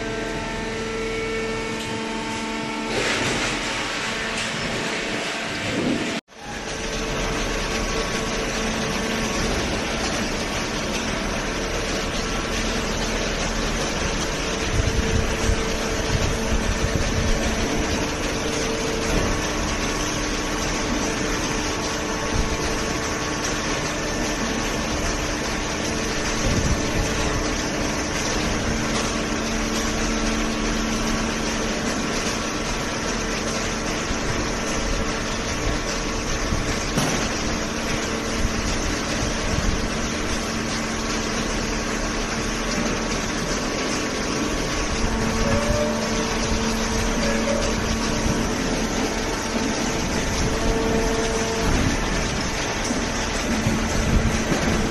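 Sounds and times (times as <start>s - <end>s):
baler machine hum: 0.0s - 54.9s.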